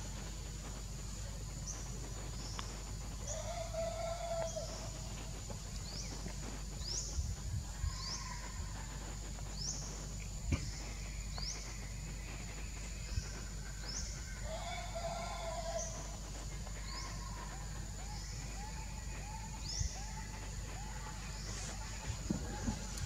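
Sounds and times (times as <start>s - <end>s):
forest insects whining: 0.0s - 23.0s.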